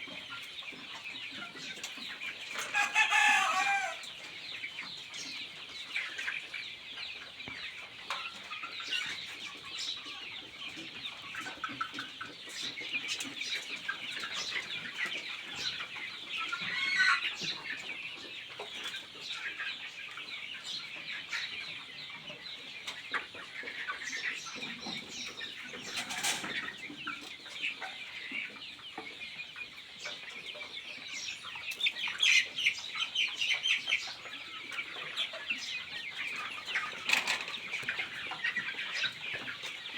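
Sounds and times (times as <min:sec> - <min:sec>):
chickens chirping and clucking: 0:00.0 - 0:39.9.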